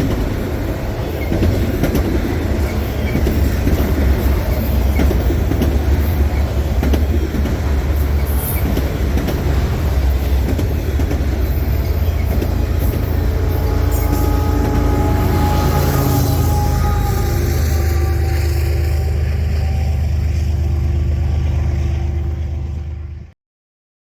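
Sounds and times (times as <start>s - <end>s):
freight train rumbling past: 0.0s - 23.4s.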